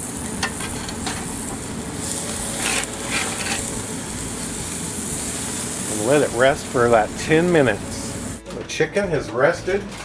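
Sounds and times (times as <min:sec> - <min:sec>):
chicken sizzling on a grill: 0:00.0 - 0:08.4.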